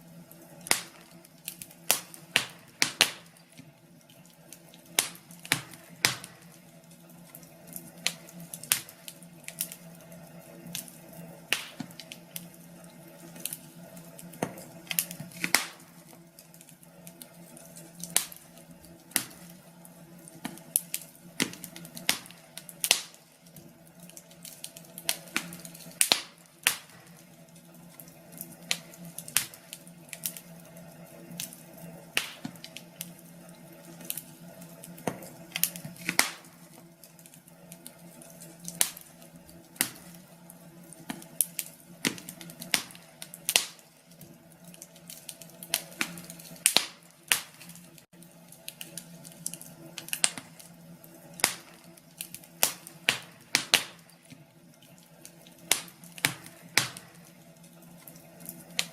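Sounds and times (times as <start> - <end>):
faint steady hum: 0.0 - 58.9
wood fire crackling: 0.0 - 58.9.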